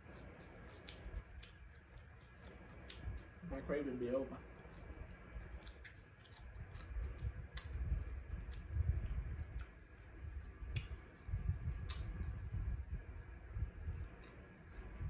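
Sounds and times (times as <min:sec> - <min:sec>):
person chewing fish: 0:00.0 - 0:12.7
sharp clicks and smacks: 0:00.0 - 0:12.7.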